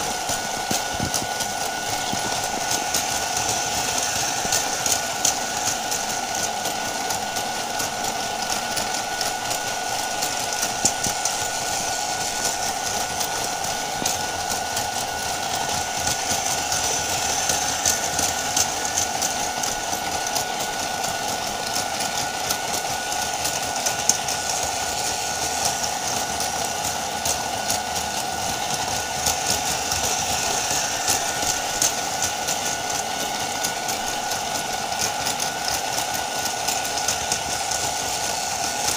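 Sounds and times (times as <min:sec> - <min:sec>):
gears and wheels clicking: 0:00.0 - 0:38.9
toy train motor whir: 0:00.0 - 0:38.9.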